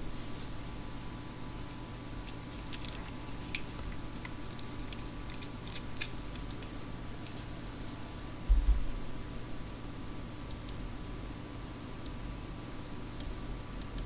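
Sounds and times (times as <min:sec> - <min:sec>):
audio line hum and hiss: 0:00.0 - 0:14.0.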